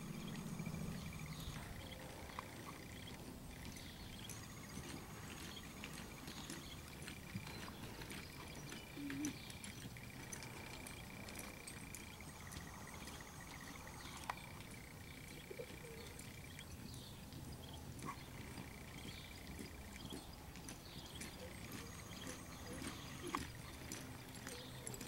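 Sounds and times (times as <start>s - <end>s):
muffled hoofbeats on dirt: 0.0s - 25.0s
outdoor background hiss: 0.0s - 25.0s.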